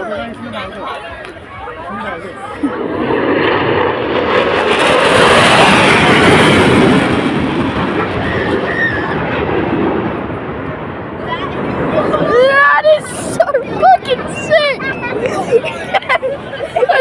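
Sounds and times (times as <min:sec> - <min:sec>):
fighter jet roaring overhead: 0:01.7 - 0:17.0.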